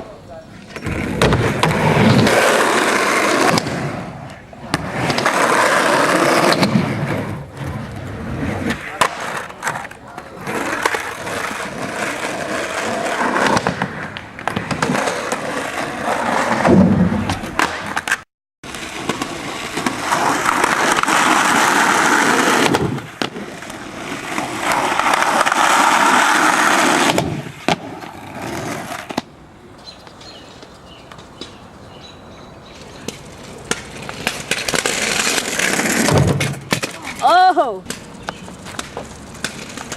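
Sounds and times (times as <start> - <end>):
skateboard wheels rolling on pavement: 0.0 - 39.9
skateboard popping and landing: 0.5 - 29.4, 32.8 - 39.9.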